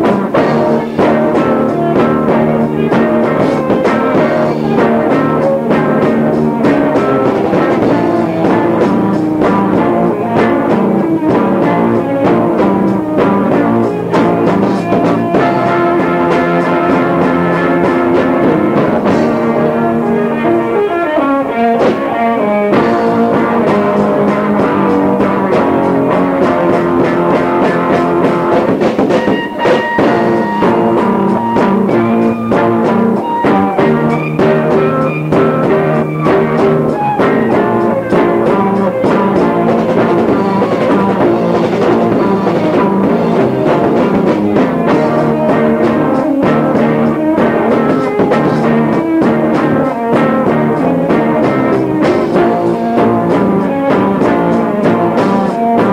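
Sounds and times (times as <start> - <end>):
drum kit: 0.0 - 55.9
electric guitar: 0.0 - 55.9
rock band playing live: 0.0 - 55.9.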